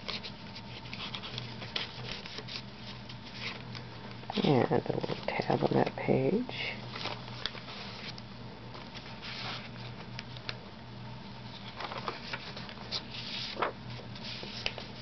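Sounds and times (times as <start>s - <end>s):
paper pages rustling: 0.0s - 5.9s, 6.9s - 10.6s, 11.4s - 15.0s
low steady hum: 0.0s - 15.0s.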